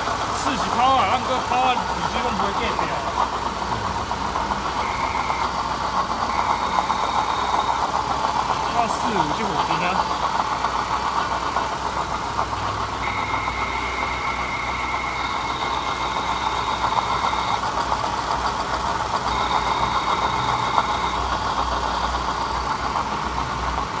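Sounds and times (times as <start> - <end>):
car engine idling: 0.0 - 24.0
high steady whine: 0.0 - 24.0.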